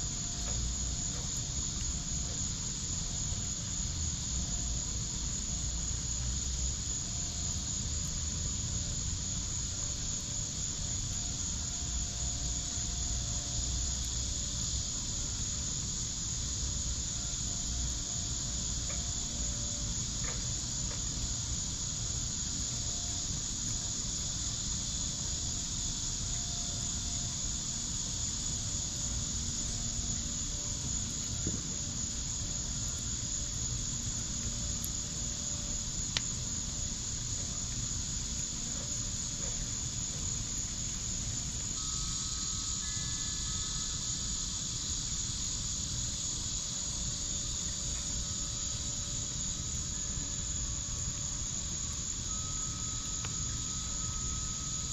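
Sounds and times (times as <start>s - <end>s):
night insects chorus: 0.0s - 54.9s.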